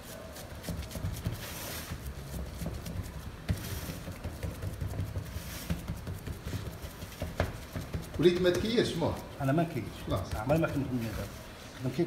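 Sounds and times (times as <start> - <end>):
hands patting dough: 0.0 - 11.4.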